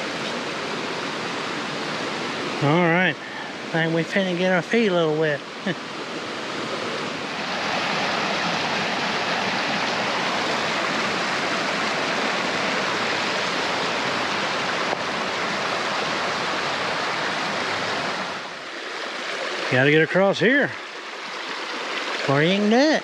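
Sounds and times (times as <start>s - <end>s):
creek rushing over rocks: 0.0s - 23.0s.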